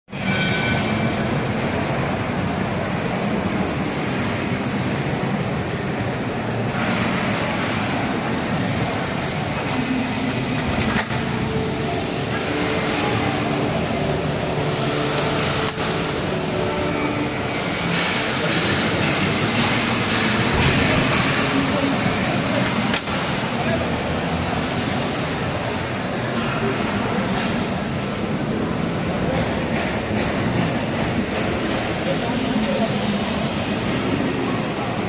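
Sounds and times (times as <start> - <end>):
even mechanical noise: 0.1 - 35.0.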